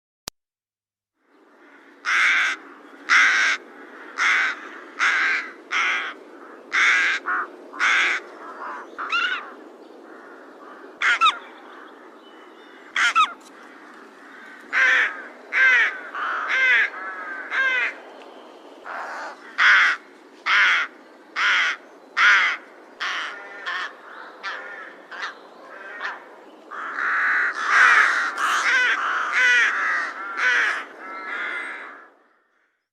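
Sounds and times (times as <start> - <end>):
crows cawing: 1.5 - 18.0, 18.8 - 32.9.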